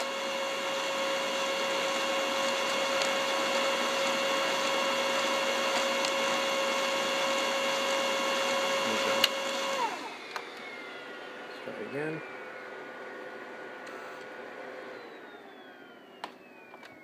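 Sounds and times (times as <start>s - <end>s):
printer motor whine: 0.0s - 17.0s.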